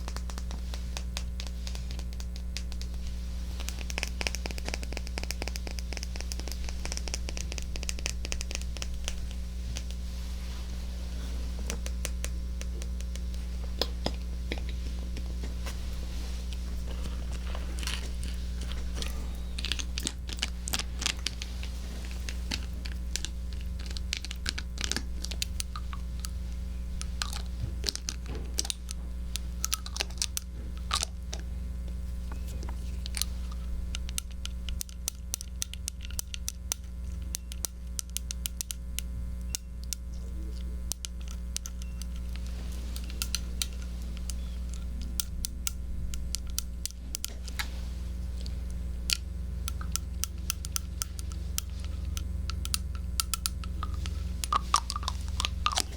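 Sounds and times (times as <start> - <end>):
faint low hum: 0.0 - 55.9.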